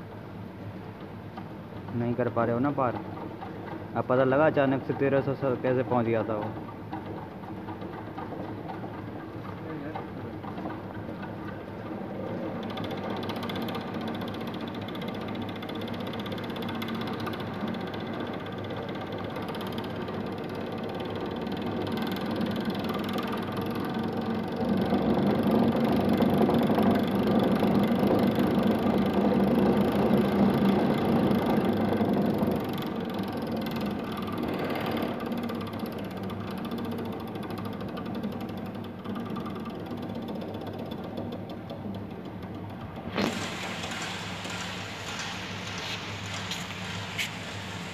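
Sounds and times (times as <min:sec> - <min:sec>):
spinning shaft test rig: 0:01.9 - 0:47.9.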